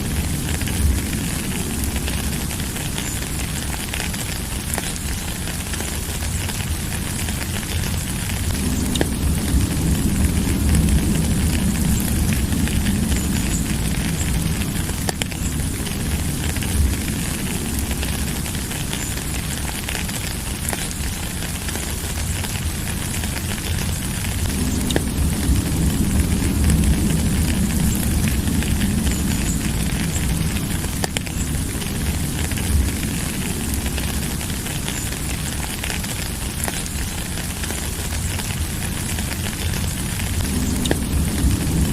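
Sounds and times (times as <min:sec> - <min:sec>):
deep low rumble: 0:00.0 - 0:41.9
steady rain: 0:00.0 - 0:41.9.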